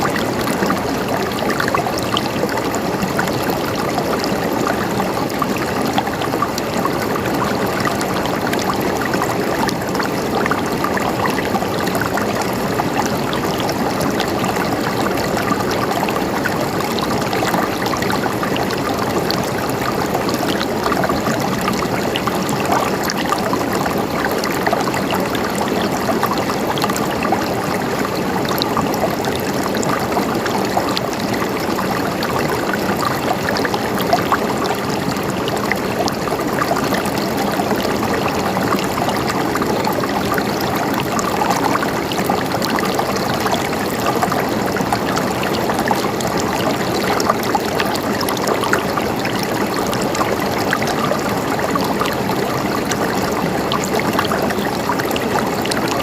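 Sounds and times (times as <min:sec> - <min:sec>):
river water running over rocks: 0:00.0 - 0:56.0.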